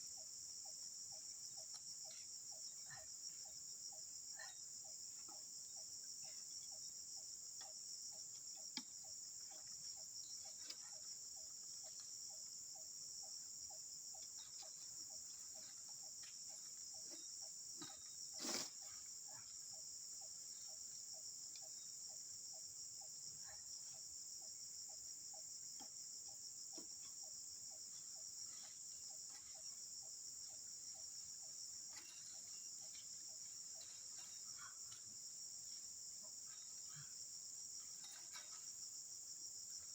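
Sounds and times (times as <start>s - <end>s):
high-pitched insect chorus: 0.0s - 39.9s
lower repeating insect call: 0.0s - 39.9s.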